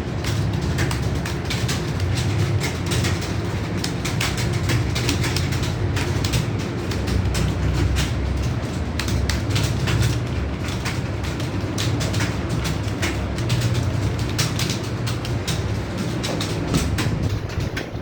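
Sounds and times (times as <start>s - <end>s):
keyboards clattering: 0.0s - 18.0s.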